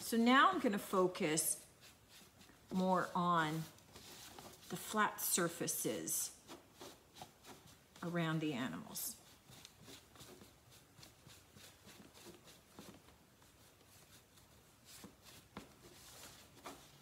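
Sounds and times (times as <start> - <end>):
rag rubbing wax on panel: 0.9 - 5.0, 6.3 - 17.0.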